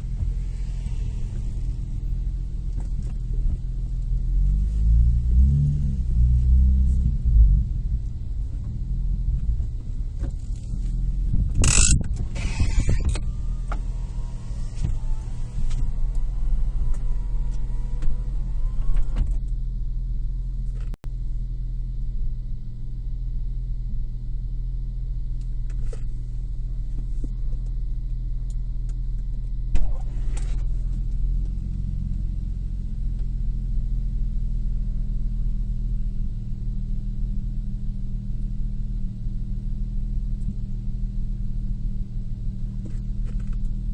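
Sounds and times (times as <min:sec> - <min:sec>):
car engine humming: 0:00.0 - 0:43.9.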